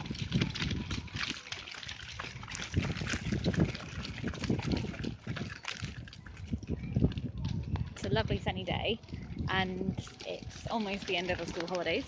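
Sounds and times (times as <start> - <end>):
pushchair wheels on stony path: 0.0 - 8.4, 9.0 - 12.0.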